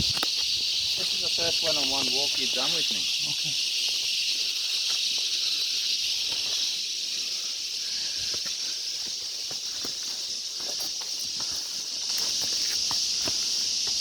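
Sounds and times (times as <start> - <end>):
cicadas calling: 0.0 - 14.0.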